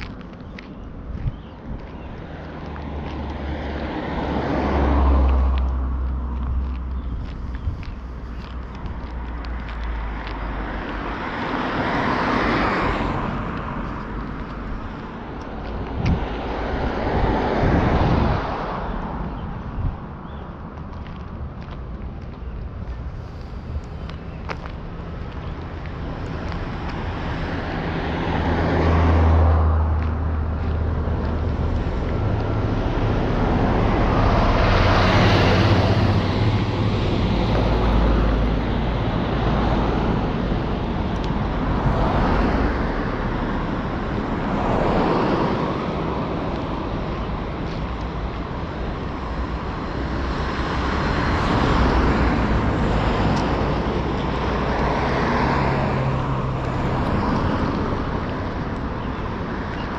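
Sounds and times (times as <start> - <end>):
cars passing by: 0.0 - 59.9
low traffic rumble: 0.0 - 59.9.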